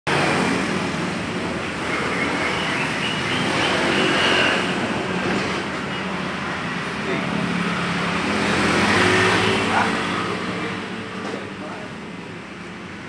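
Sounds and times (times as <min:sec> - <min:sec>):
traffic rumble: 0:00.1 - 0:13.0.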